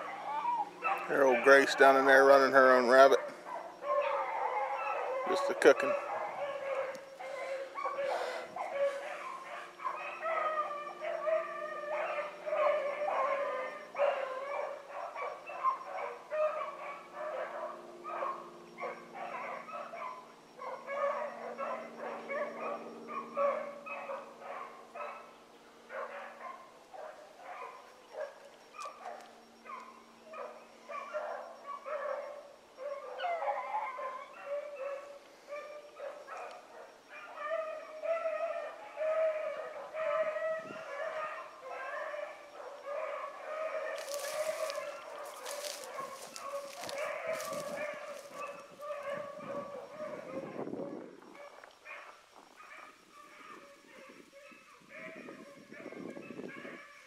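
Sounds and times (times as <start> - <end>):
dogs barking and baying: 0.0 - 57.0.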